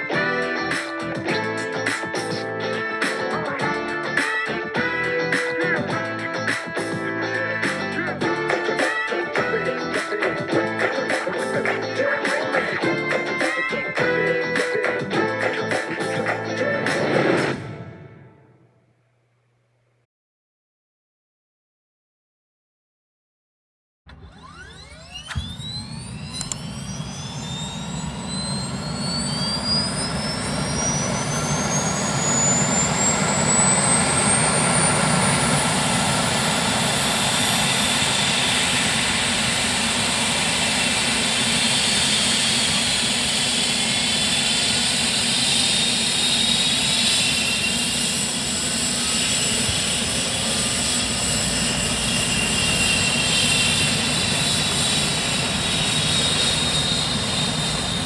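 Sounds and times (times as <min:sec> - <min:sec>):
helicopter turbine whine: 0:00.0 - 0:18.6, 0:24.2 - 0:58.0.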